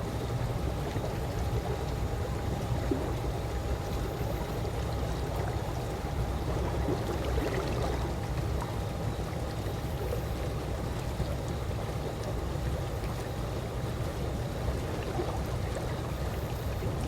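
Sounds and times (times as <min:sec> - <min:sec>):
faint steady hum: 0:00.0 - 0:17.0
pool water lapping and trickling: 0:00.0 - 0:17.0.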